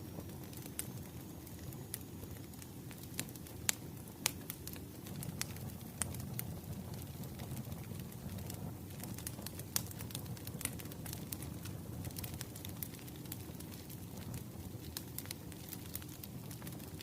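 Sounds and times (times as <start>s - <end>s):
fire pops and snaps: 0.0s - 17.0s
low rumble of flames: 0.0s - 17.0s.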